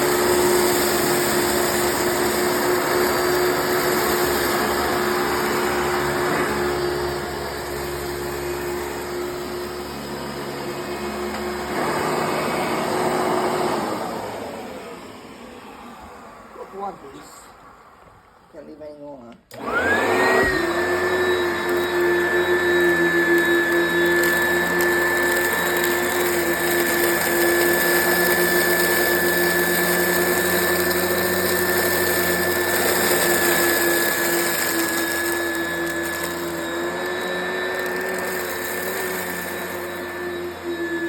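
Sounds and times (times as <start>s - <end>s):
vacuum cleaner motor whine: 0.0s - 18.5s, 19.5s - 41.0s.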